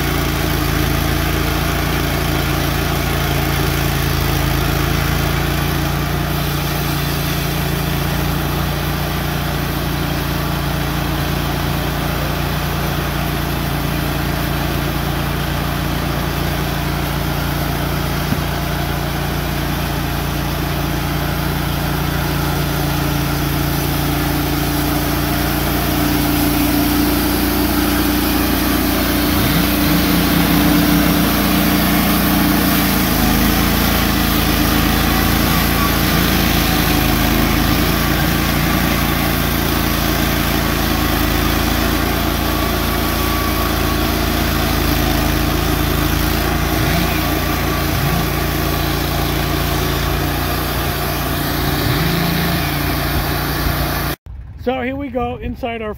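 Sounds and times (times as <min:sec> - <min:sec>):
sawmill engine cutting log: 0:00.0 - 0:54.2.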